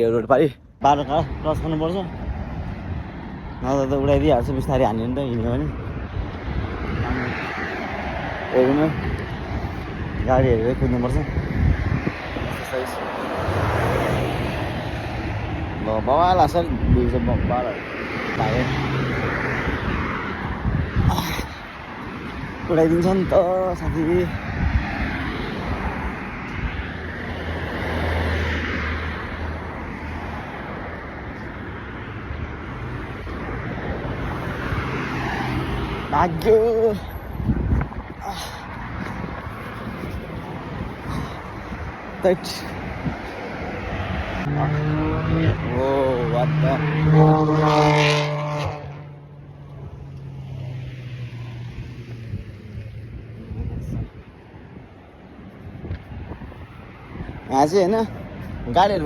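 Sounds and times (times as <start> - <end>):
cars passing: 0.0 - 59.0.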